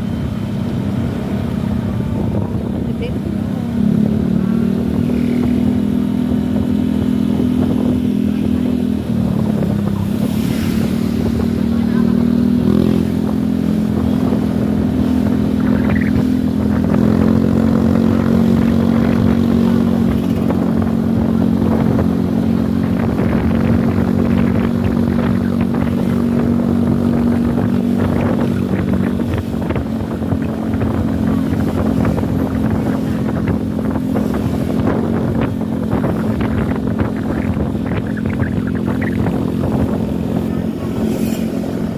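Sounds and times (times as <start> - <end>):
road noise: 0.0 - 41.9
rushing wind: 0.0 - 41.9
vehicle engine running: 0.0 - 41.9.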